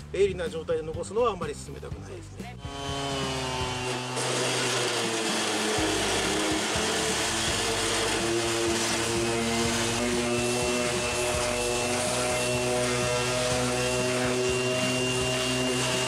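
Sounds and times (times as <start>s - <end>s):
orbital sander on metal: 2.6s - 16.0s.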